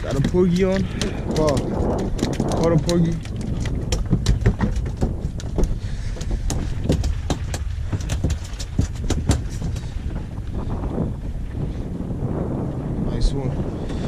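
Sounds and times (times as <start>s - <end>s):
knocks and slaps on boat: 0.0s - 11.6s
wind and water rumble: 0.0s - 14.0s.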